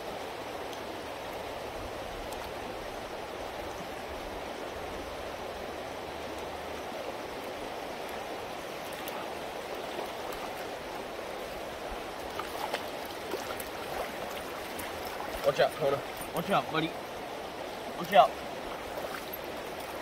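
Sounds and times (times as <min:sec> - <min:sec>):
river running over gravel: 0:00.0 - 0:20.0.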